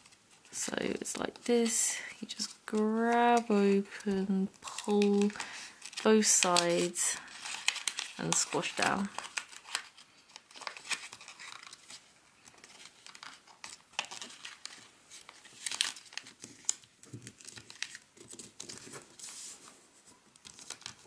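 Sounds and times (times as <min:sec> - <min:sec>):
paper crinkling and rustling: 0:00.0 - 0:21.0.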